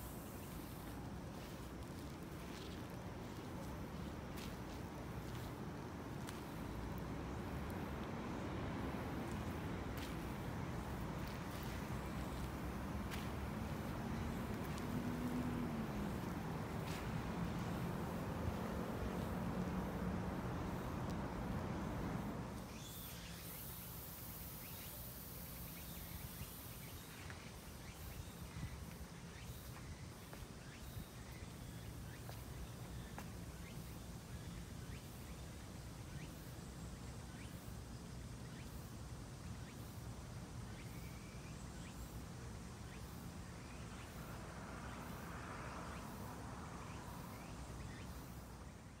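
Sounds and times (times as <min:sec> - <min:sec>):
distant city traffic hum: 0:00.0 - 0:49.0.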